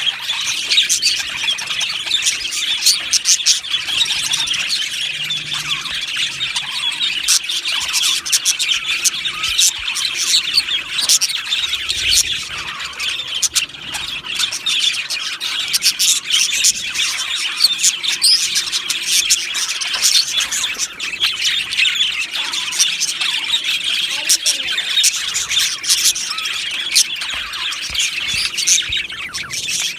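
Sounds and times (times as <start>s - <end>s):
flock of budgerigars chattering: 0.0s - 29.9s.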